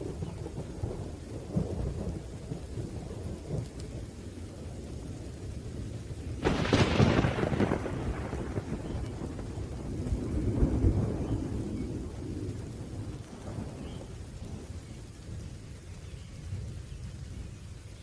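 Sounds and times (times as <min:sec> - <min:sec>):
steady rain: 0:00.0 - 0:18.0
thunder rumbling: 0:00.0 - 0:18.0.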